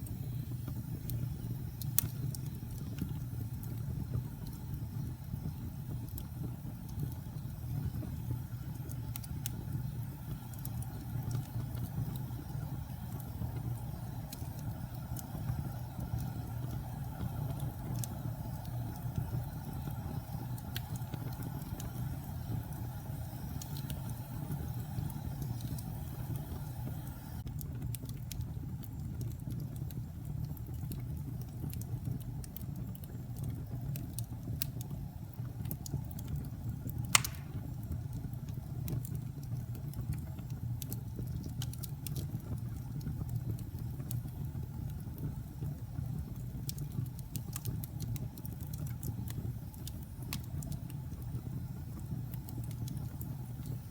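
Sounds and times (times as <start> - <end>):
fire crackles and pops: 0.0 - 53.9
low roar of flames: 0.0 - 53.9.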